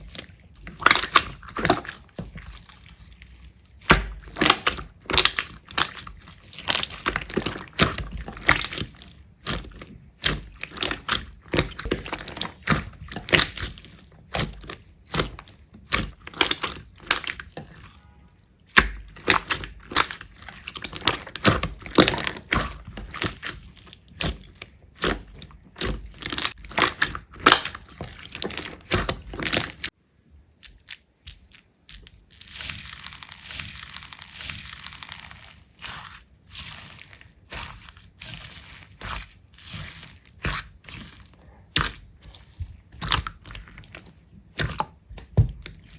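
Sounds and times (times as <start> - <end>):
slime crackling and popping: 0.0 - 29.9, 30.6 - 45.9.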